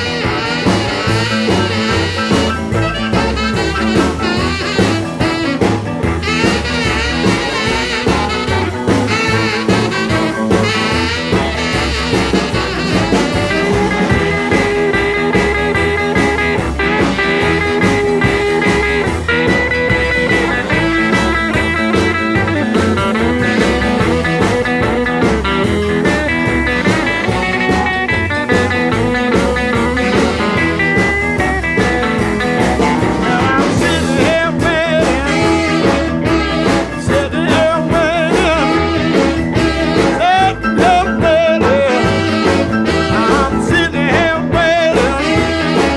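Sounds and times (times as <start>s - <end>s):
blues rock band playing: 0.0s - 45.9s
guitar bending notes: 0.0s - 45.9s.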